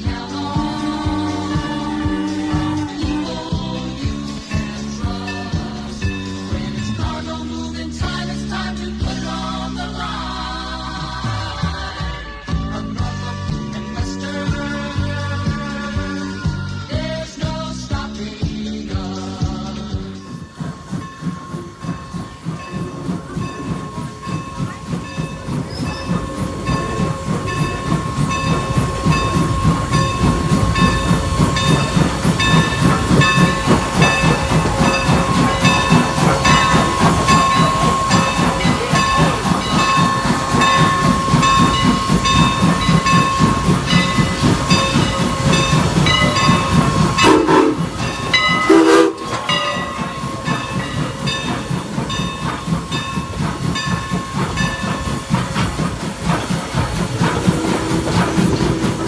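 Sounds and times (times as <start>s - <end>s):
steam locomotive chuffing: 0.0s - 17.6s, 19.8s - 59.0s.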